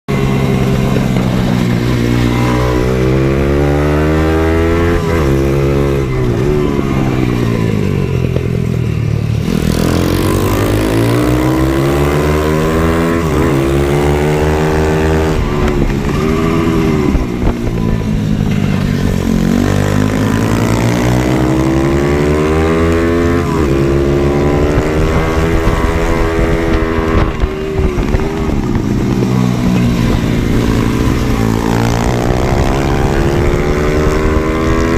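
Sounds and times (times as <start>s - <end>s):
motorbike engine accelerating: 0.1s - 34.9s.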